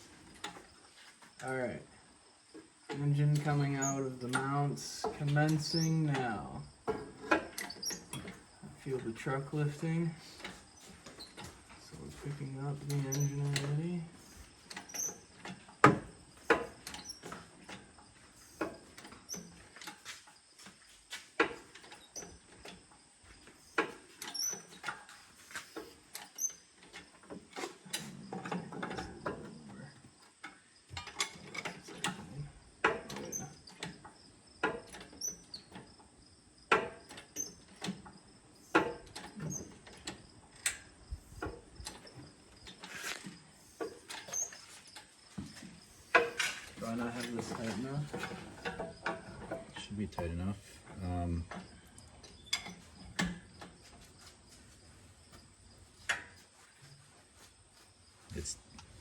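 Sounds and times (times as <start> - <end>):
engine hoist clicks and clanks: 0.0 - 0.7, 2.9 - 54.1.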